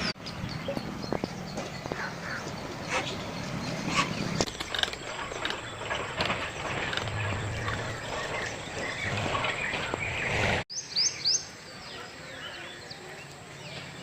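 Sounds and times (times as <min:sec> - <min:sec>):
birds chirping: 0:00.0 - 0:14.0
loud sharp bird calls: 0:00.0 - 0:14.0.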